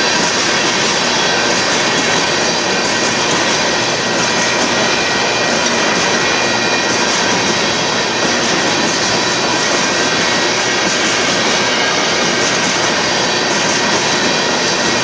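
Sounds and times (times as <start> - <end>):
steel wheels rolling on rails: 0.0 - 15.0.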